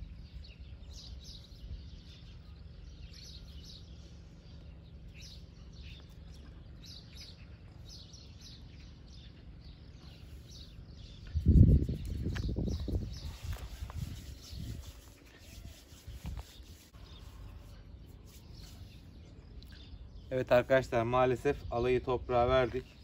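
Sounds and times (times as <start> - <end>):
low steady rumble: 0.0 - 23.0
small birds chirping: 0.0 - 23.0.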